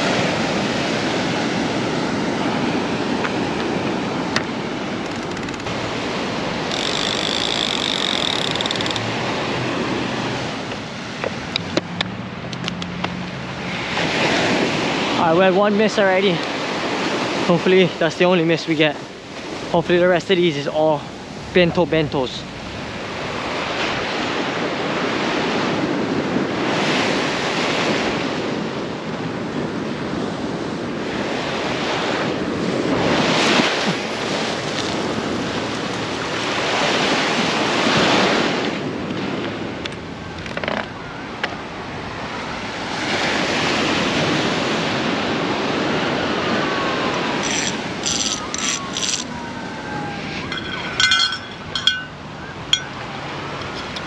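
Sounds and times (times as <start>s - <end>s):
waves washing on shore: 0.0s - 54.0s.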